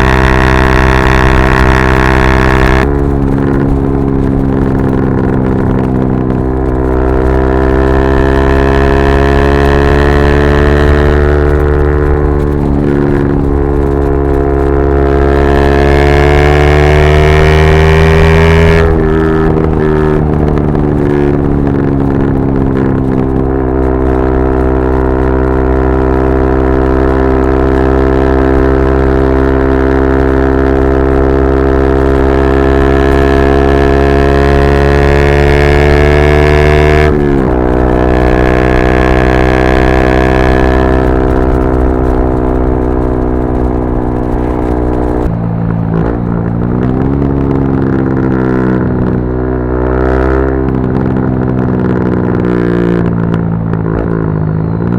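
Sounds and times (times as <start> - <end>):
motorcycle engine under load: 0.0 - 54.9.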